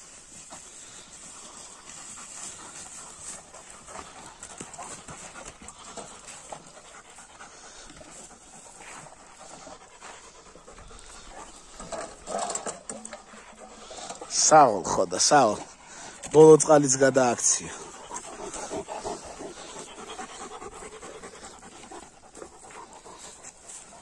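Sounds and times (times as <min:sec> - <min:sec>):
dogs panting: 0:00.0 - 0:24.0.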